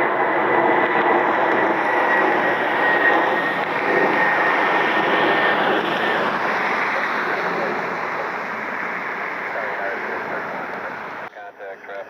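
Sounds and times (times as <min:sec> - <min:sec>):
jet engines rushing: 0:00.0 - 0:11.3.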